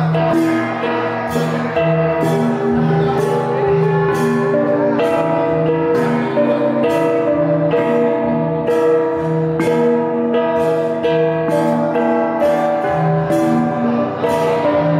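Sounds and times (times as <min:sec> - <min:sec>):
tuned gongs playing: 0:00.0 - 0:14.9.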